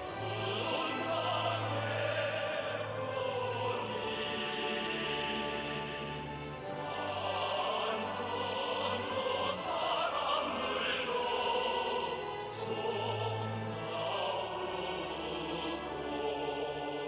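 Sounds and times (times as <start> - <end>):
choir singing: 0.0 - 17.0
orchestra playing: 0.0 - 17.0.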